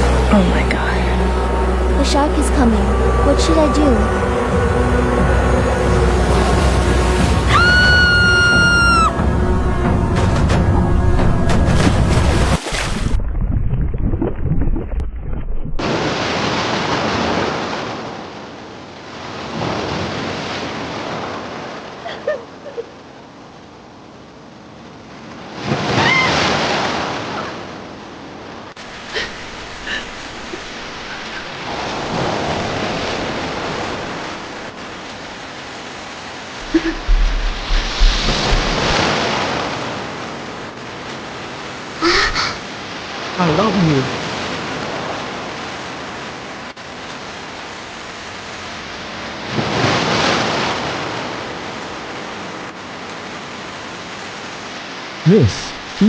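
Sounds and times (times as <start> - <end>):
sea water surging and splashing: 0.0 - 56.0.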